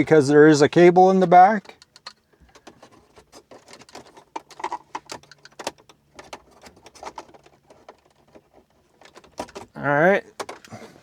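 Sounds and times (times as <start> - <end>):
plastic clicks and knocks: 1.2 - 10.8.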